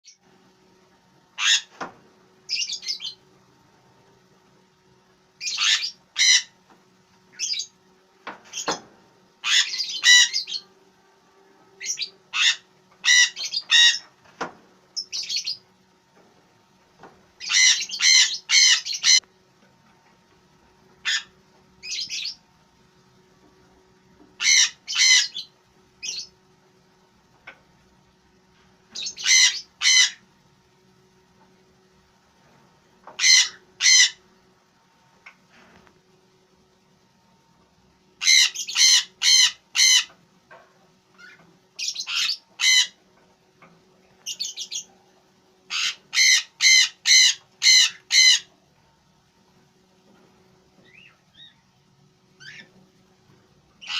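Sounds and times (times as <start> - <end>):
incubator fan hum: 0.0 - 53.9.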